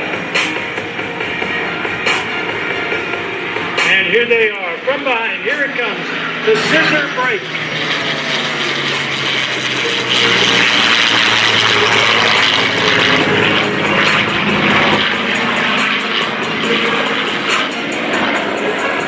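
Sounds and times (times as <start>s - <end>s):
propeller planes droning: 0.0s - 19.0s.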